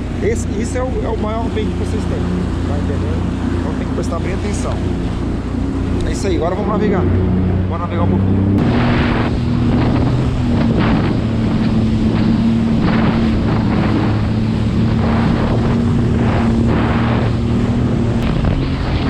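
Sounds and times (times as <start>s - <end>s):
jet ski engine droning: 0.0s - 19.0s
water rushing and spraying: 0.0s - 19.0s
wind buffeting microphone: 0.0s - 19.0s.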